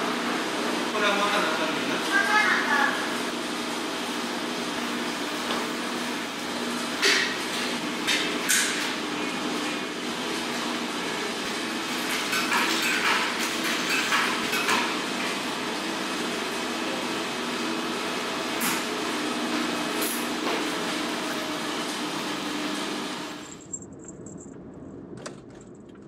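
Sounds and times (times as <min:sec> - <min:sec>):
washing machines humming: 0:00.0 - 0:26.0.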